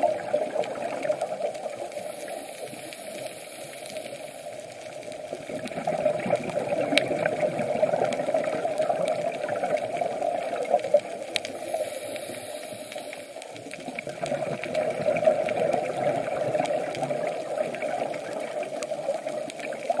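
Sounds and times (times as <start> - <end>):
underwater breath bubbling: 0.0 - 20.0
faint clicks: 0.1 - 20.0.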